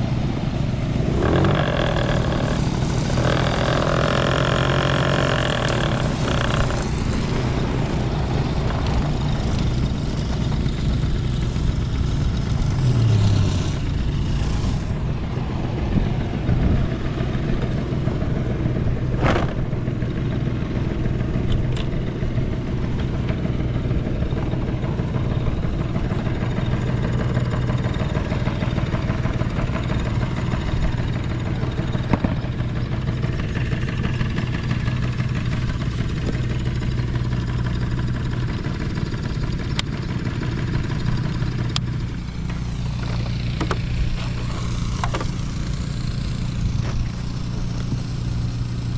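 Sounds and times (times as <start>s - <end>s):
engine revving: 0.0s - 48.9s
scooter engine idling: 0.0s - 48.9s.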